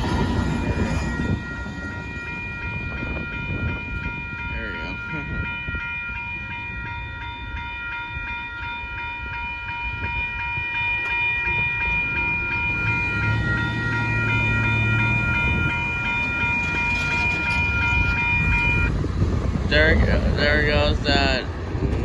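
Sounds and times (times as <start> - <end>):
freight train rumbling: 0.0 - 22.0
railroad crossing bell ringing: 0.0 - 22.0.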